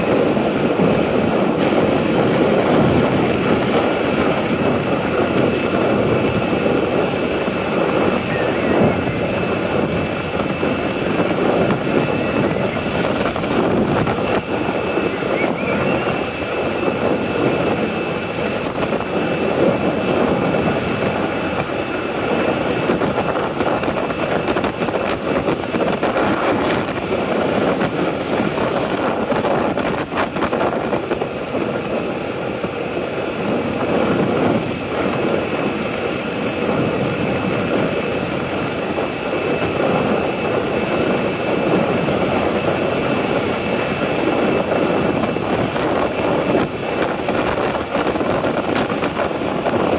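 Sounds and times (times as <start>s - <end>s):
thin steady whine: 0.0s - 49.9s
wind and road noise: 0.0s - 49.9s.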